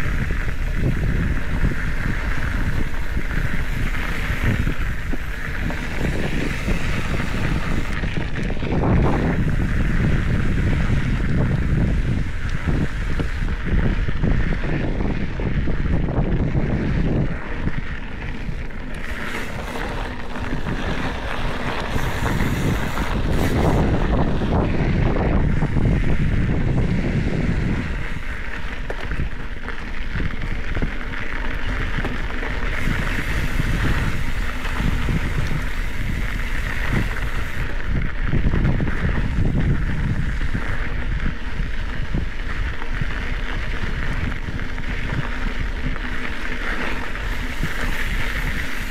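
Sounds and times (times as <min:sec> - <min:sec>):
bike tyres on dirt and gravel: 0:00.0 - 0:48.9
wind rushing over microphone: 0:00.0 - 0:48.9.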